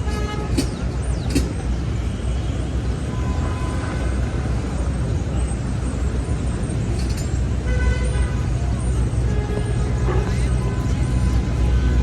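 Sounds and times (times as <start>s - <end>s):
traffic rumbling past: 0.0s - 12.0s.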